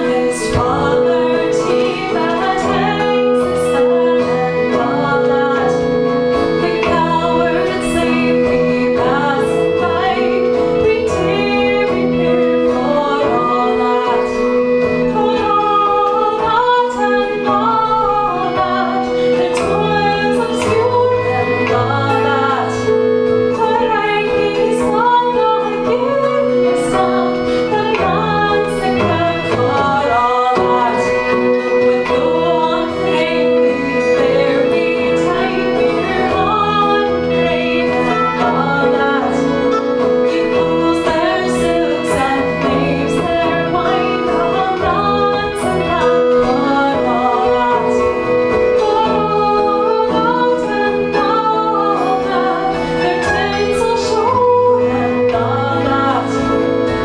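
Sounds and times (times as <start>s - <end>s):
live celtic band music: 0.0s - 57.0s
woman singing: 0.0s - 57.0s.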